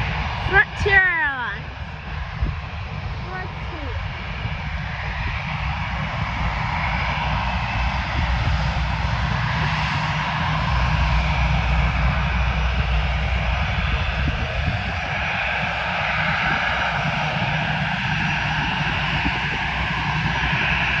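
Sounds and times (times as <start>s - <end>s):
jet airliner engines roaring: 0.0s - 21.0s.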